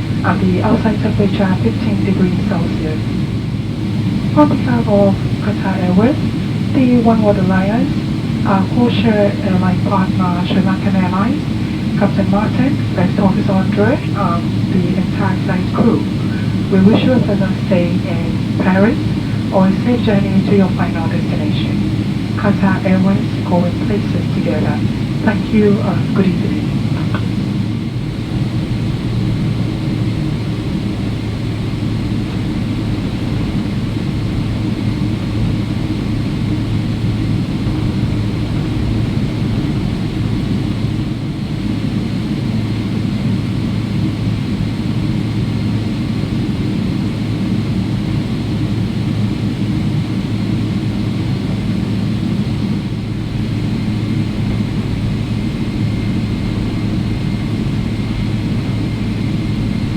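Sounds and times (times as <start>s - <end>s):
aircraft cabin rumble: 0.0s - 59.9s
jet engines idling: 0.0s - 59.9s.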